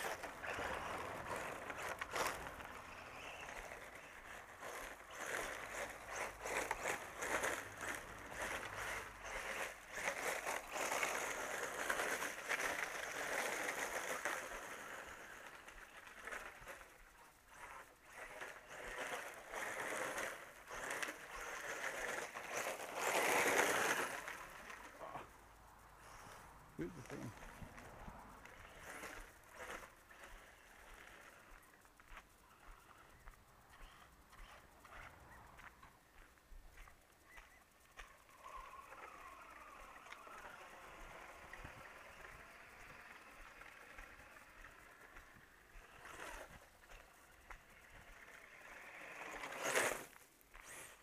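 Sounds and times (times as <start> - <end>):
gravel crunching: 0.0 - 51.0.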